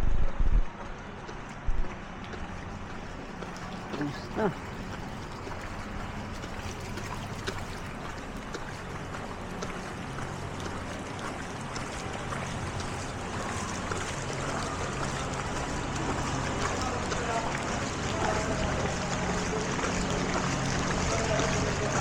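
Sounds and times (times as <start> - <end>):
water sloshing and splashing: 0.6 - 22.0.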